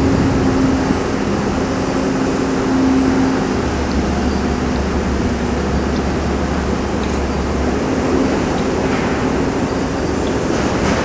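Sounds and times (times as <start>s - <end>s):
motor engines droning: 0.0s - 11.0s.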